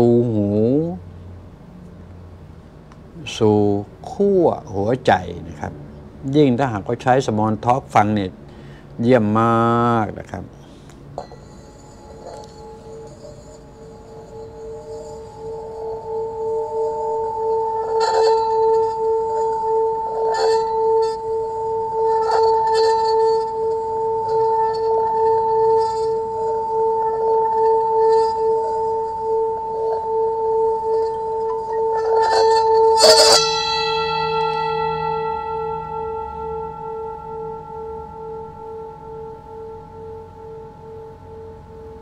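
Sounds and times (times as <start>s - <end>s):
singing bowl ringing: 3.8s - 42.0s.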